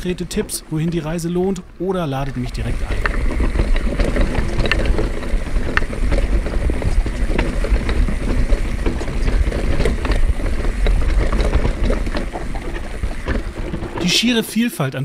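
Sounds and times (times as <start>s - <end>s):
wind buffeting microphone: 0.0s - 14.6s
bike clicks and rattles: 0.0s - 14.7s
bike tyres rumbling: 0.0s - 15.0s.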